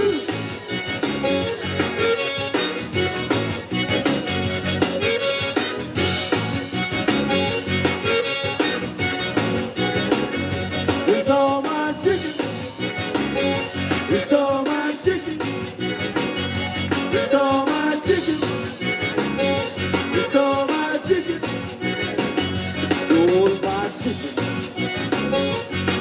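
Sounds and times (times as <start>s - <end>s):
live zydeco band playing: 0.0s - 26.0s.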